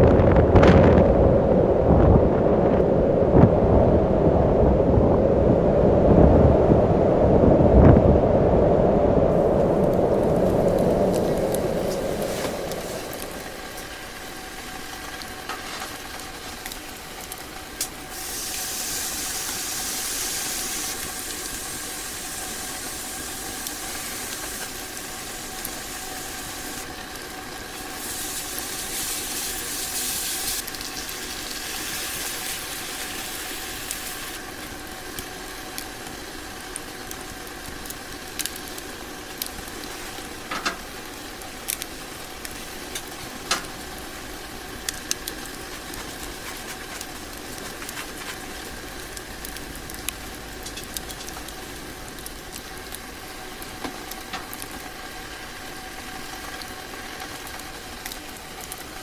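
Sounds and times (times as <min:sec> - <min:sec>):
food sizzling in a pan: 0:09.3 - 0:59.0
small clicks and crackles: 0:09.3 - 0:59.0.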